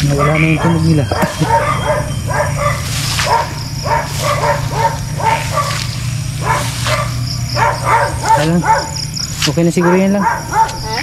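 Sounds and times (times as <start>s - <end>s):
animal calls bending down: 0.0s - 11.0s
steady low hum: 0.0s - 11.0s.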